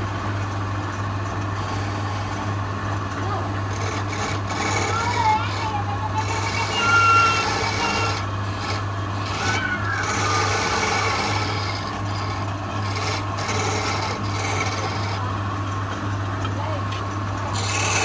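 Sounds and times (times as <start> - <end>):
wood lathe humming: 0.0 - 18.0
chisel scraping spinning wood: 1.0 - 18.0.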